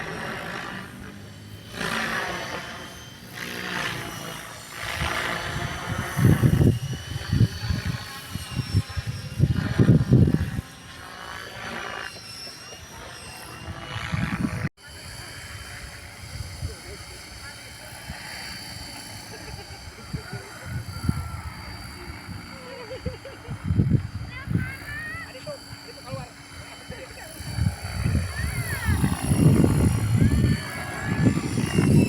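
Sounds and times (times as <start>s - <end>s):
model plane motor whining: 0.0s - 32.0s
wind buffeting microphone: 3.4s - 32.0s.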